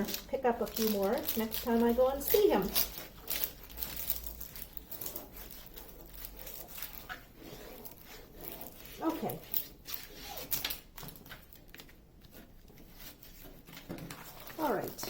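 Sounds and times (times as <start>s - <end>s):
plastic cover crinkling: 0.0s - 15.0s.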